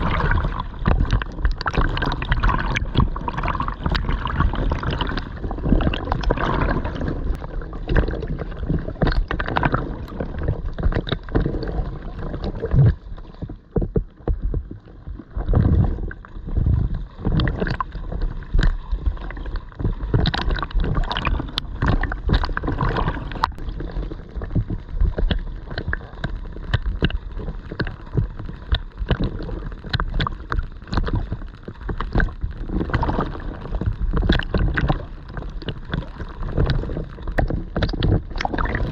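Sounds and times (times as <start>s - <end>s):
water splashing from swimming strokes: 0.0s - 38.9s.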